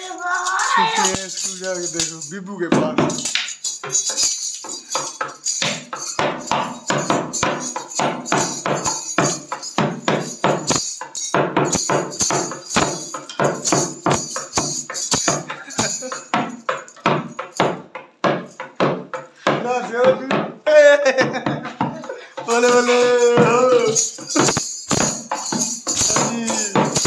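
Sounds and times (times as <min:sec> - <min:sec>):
small drum beaten fast: 0:00.8 - 0:27.0.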